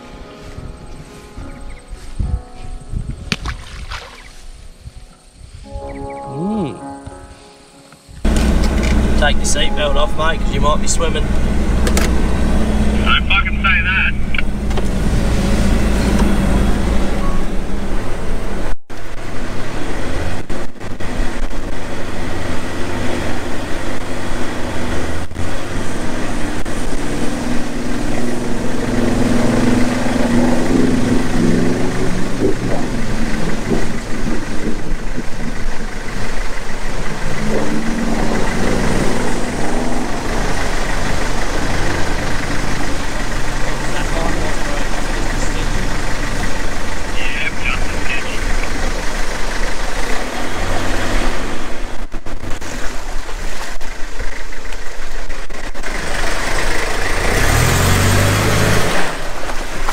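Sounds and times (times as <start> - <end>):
car engine running: 8.2 - 59.9.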